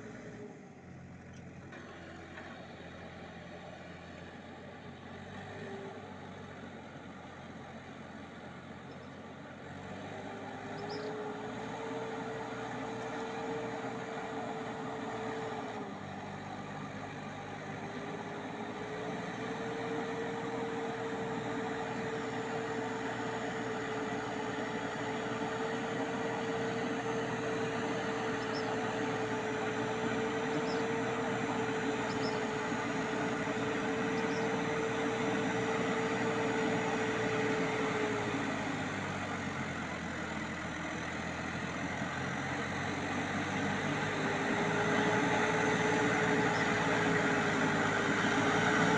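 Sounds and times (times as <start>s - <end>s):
tractor engine with whine: 0.0s - 48.9s.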